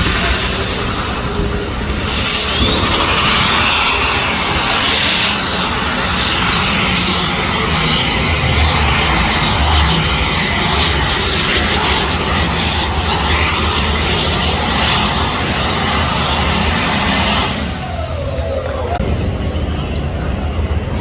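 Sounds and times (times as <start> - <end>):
high engine whine: 0.0 - 21.0
tractor engine at full power: 0.0 - 21.0.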